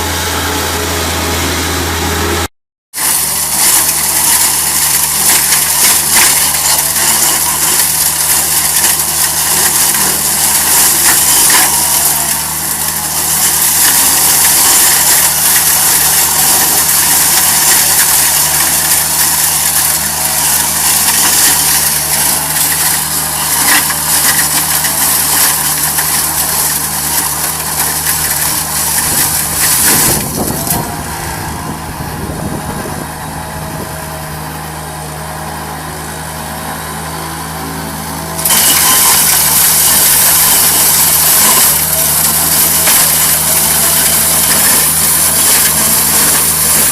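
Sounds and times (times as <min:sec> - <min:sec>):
loud hissing cutting noise: 0:00.0 - 0:35.2, 0:38.1 - 0:46.9
machinery engine running: 0:00.0 - 0:46.9.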